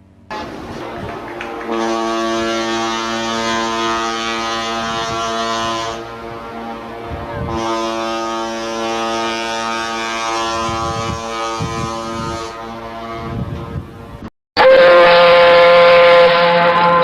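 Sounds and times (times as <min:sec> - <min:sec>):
wind buffeting microphone: 0:00.3 - 0:14.3
ship's horn blast: 0:00.3 - 0:17.0.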